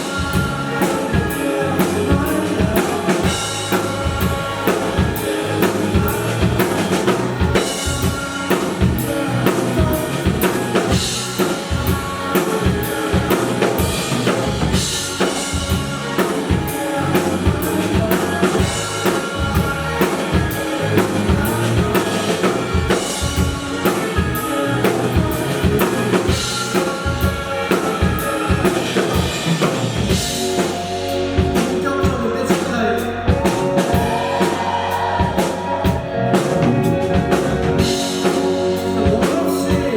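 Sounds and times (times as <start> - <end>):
drum kit beat with rimshots: 0.0 - 39.9
live band music: 0.0 - 39.9.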